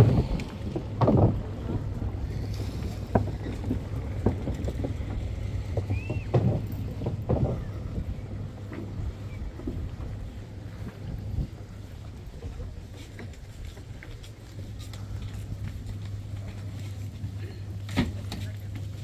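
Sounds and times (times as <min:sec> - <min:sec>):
wind buffeting microphone: 0:00.0 - 0:17.8.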